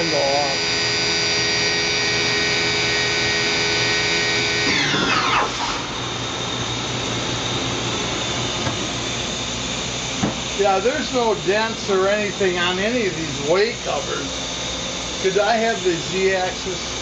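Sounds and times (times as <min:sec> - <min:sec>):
machining spindle whining: 0:00.0 - 0:17.0.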